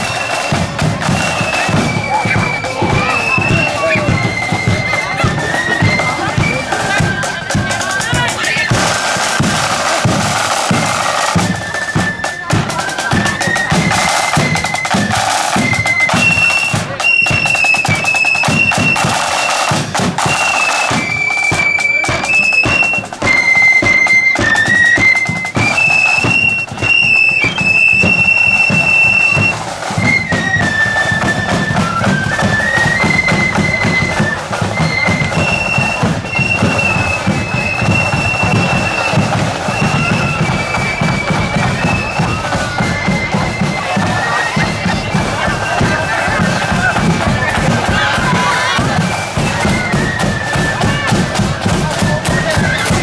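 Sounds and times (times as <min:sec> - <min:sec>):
drums beating: 0:00.0 - 0:53.0
flute melody: 0:00.0 - 0:53.0.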